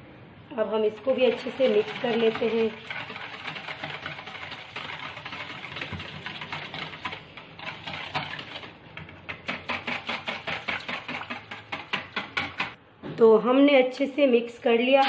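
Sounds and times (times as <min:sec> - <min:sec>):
whisk beating batter in bowl: 0:00.6 - 0:12.8.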